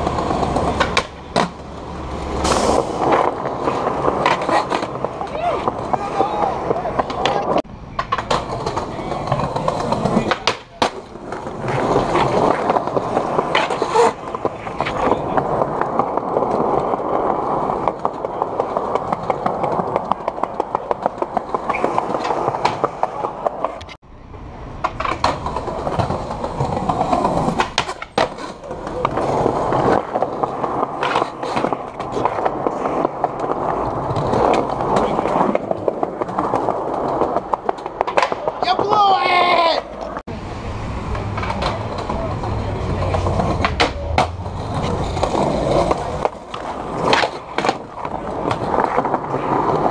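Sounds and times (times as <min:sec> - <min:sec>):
skateboard wheels clicking over seams: 0:00.0 - 0:24.0, 0:24.7 - 0:40.2, 0:41.0 - 0:49.9
skateboard wheels rolling on concrete: 0:00.0 - 0:49.9.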